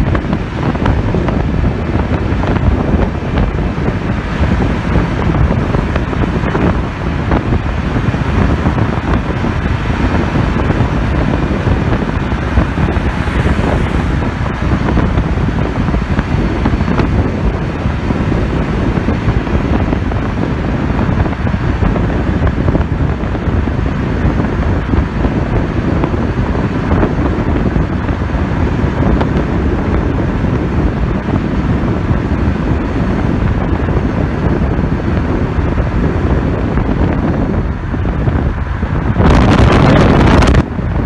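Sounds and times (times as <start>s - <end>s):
road and engine noise: 0.0s - 41.0s
wind buffeting microphone: 0.0s - 41.0s.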